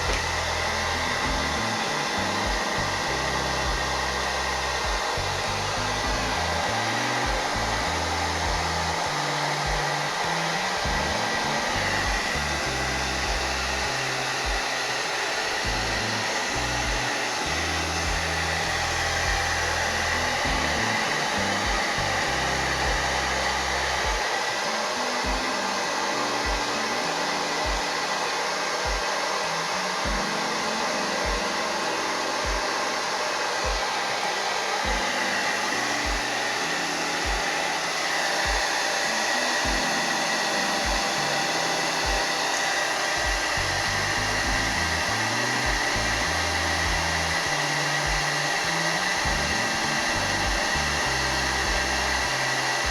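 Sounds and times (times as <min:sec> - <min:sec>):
hair dryer blowing: 0:00.0 - 0:52.9.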